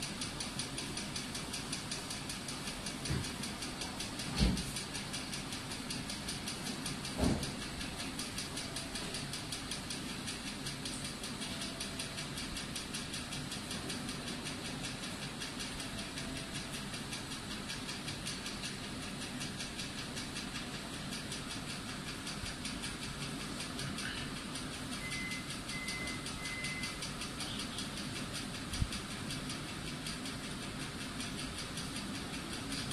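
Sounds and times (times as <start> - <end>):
machine running with fast pulse: 0.0 - 32.9.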